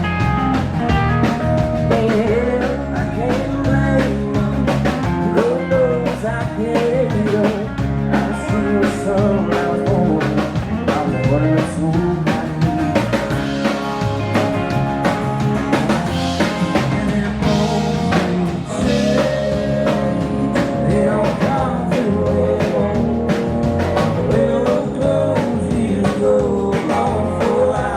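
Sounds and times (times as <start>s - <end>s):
drums beat: 0.0s - 27.9s
guitar chords: 0.0s - 27.9s
live band playing: 0.0s - 27.9s
sliding lead melody: 0.0s - 27.9s.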